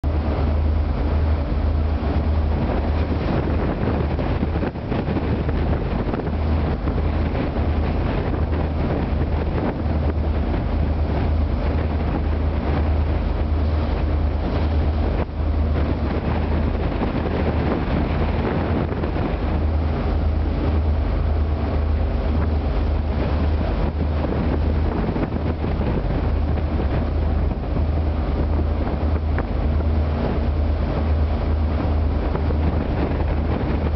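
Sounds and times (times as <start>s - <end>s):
boat engines droning: 0.0s - 33.9s
rough sea washing past hull: 0.0s - 33.9s
wind buffeting microphone: 0.0s - 33.9s.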